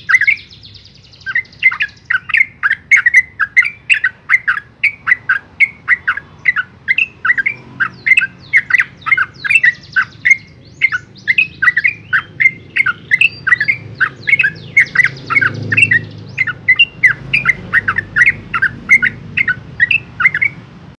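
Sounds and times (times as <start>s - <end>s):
bird singing chattering notes: 0.0s - 20.7s.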